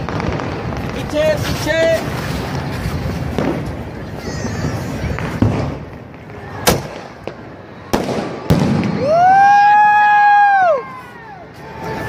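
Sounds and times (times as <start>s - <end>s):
firework bangs: 0.0s - 10.1s
firework hissing: 0.0s - 12.0s.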